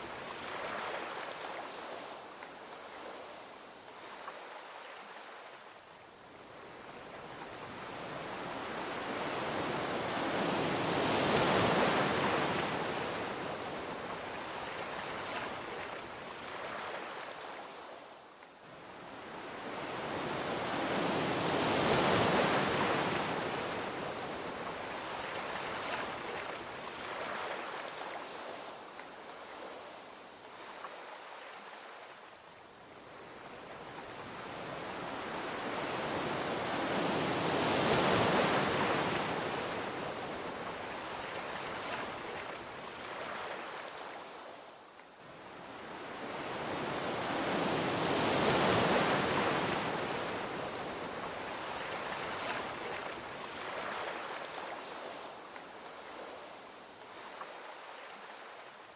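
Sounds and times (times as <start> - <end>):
ocean waves washing onto beach: 0.0 - 58.9.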